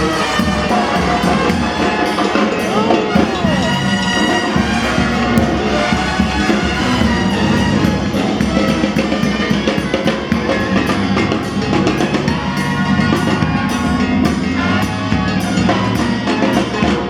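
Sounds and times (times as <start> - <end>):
bass drum and snare beat: 0.0 - 17.0
brass band music: 0.0 - 17.0.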